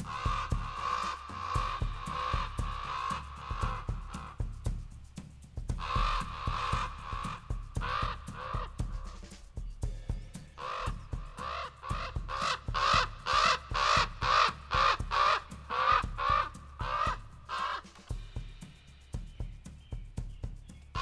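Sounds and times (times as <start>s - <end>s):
bird calling: 0.0s - 21.0s.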